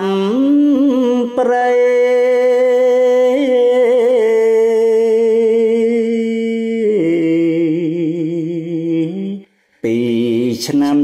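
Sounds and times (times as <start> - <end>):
man chanting verse: 0.0 - 11.0.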